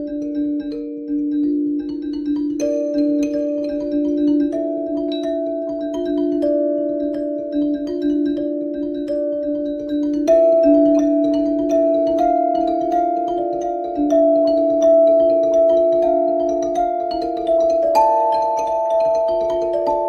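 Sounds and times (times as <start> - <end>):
ringing mallet percussion music: 0.0 - 20.0.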